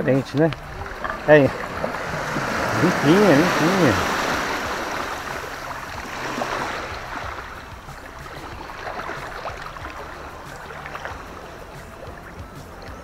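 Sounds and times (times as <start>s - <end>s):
small waves washing on sand: 0.5s - 12.2s.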